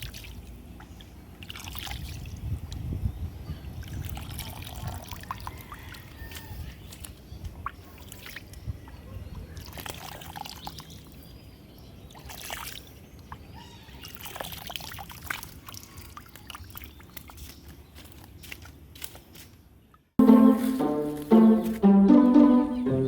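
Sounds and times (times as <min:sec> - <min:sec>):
water splashing and trickling: 0:00.0 - 0:19.4.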